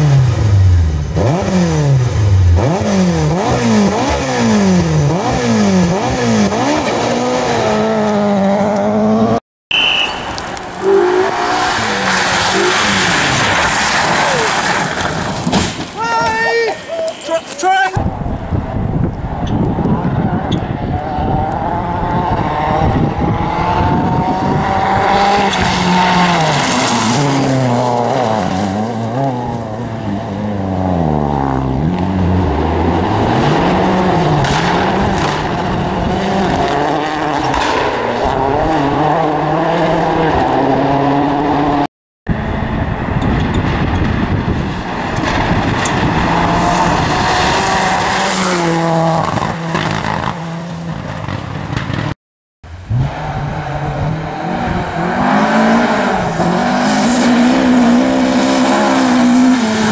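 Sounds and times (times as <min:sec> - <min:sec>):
rally car engines revving: 0:00.0 - 0:09.4, 0:10.1 - 0:15.9, 0:18.0 - 0:52.2, 0:52.8 - 0:59.9.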